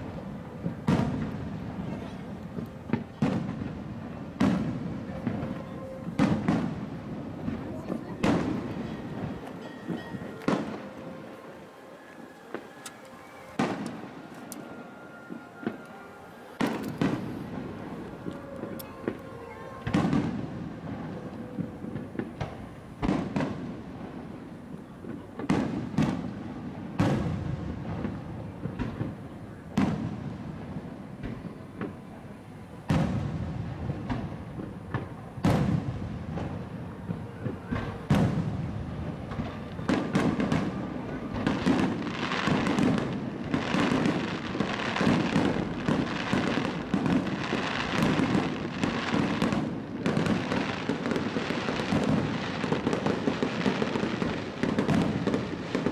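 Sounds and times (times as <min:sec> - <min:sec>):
fireworks booming: 0:00.0 - 0:55.9
rapid fireworks bangs and crackle: 0:00.0 - 0:55.9.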